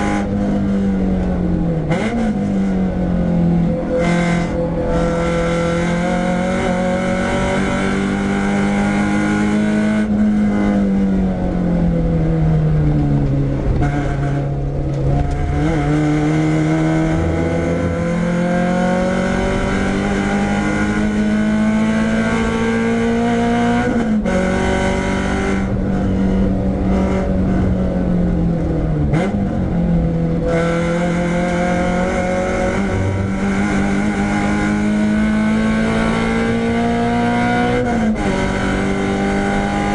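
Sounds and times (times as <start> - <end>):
car engine revving from inside cabin: 0.0 - 39.9.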